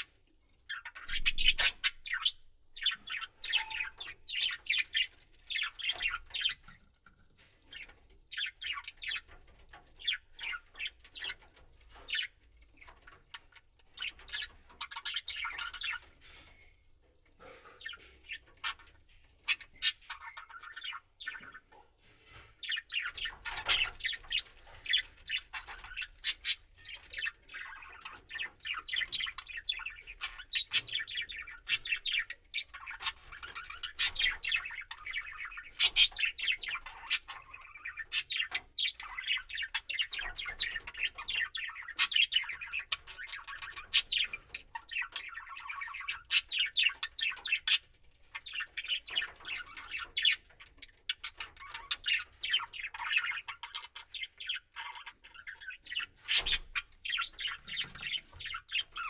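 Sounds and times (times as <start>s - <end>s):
budgerigars chattering: 0.7s - 6.7s, 7.7s - 9.3s, 13.9s - 16.6s, 17.4s - 21.7s, 22.6s - 59.0s.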